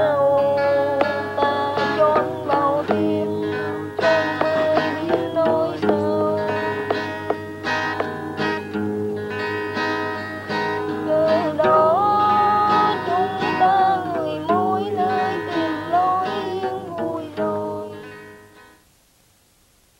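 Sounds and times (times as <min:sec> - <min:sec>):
plucked strings: 0:00.0 - 0:18.6.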